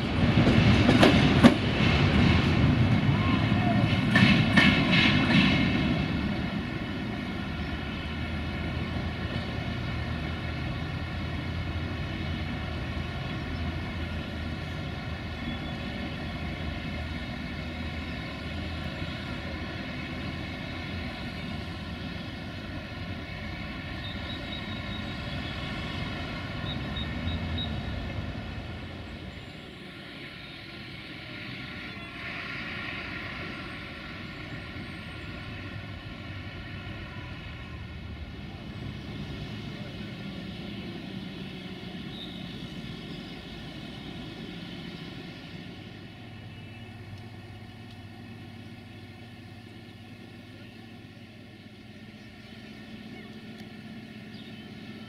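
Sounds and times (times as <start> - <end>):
diesel train engine droning: 0.0 - 55.0.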